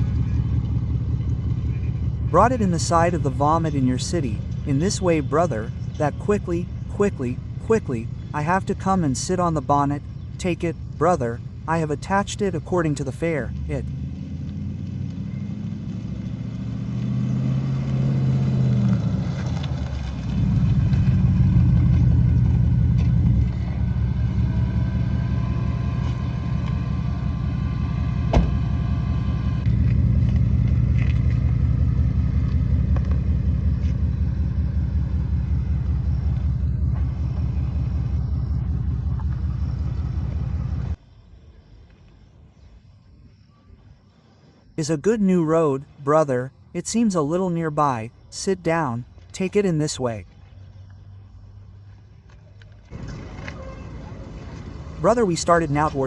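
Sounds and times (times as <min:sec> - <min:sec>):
car engine running: 0:00.0 - 0:41.0, 0:46.8 - 0:56.0.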